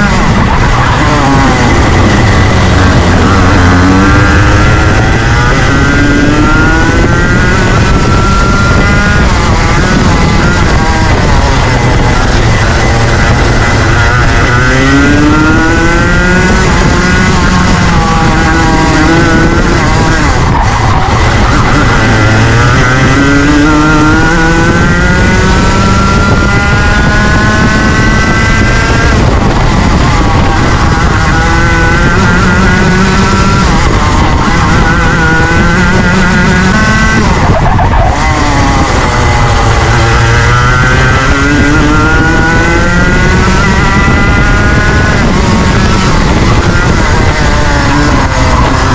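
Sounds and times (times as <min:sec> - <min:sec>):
constant noisy rush: 0:00.0 - 0:48.9
kart engine revving: 0:00.0 - 0:48.9.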